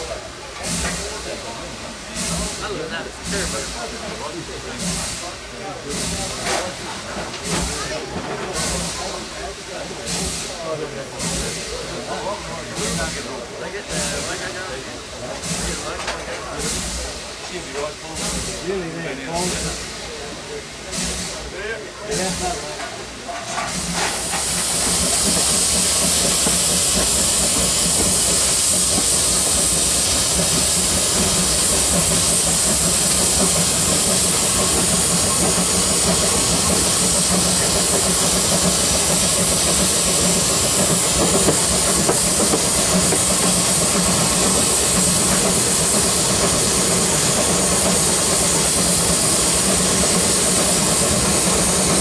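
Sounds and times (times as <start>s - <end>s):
steam locomotive hissing: 0.0s - 52.0s.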